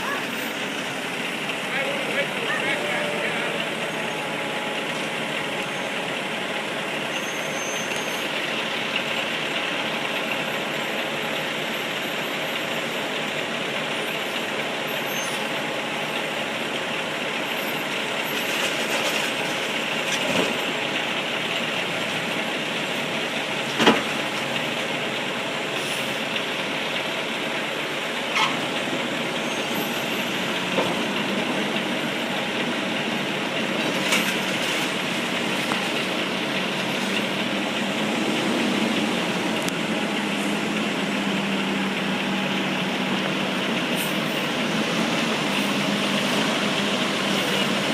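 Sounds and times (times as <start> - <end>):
garbage truck engine running: 0.0 - 47.9.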